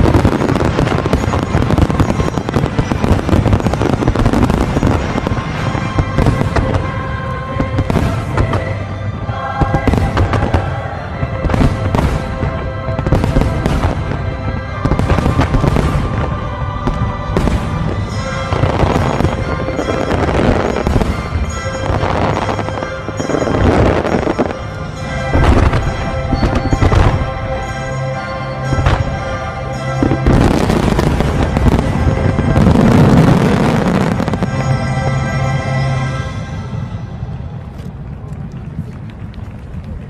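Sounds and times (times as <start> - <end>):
fireworks booming and crackling: 0.0 - 28.0, 28.6 - 36.3
music playing: 0.0 - 38.3.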